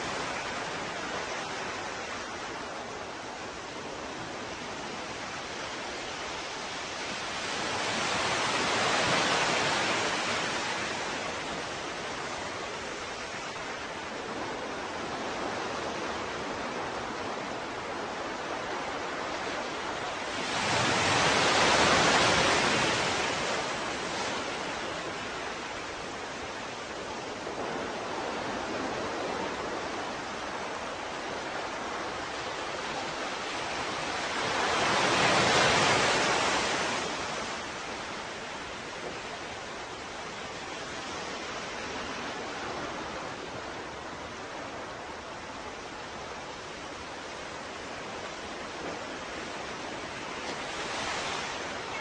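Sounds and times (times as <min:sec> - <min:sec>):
hiss of surf: 0:00.0 - 0:52.0
ocean waves washing: 0:00.0 - 0:52.0.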